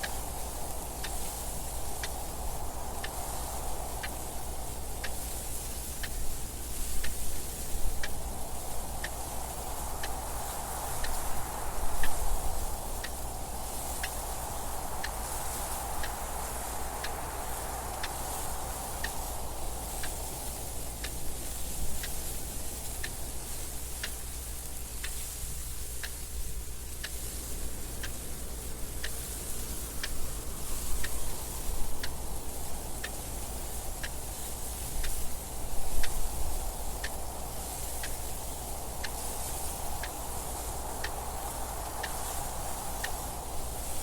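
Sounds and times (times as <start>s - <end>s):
clock ticking: 0.0s - 44.0s
wind noise: 0.0s - 44.0s.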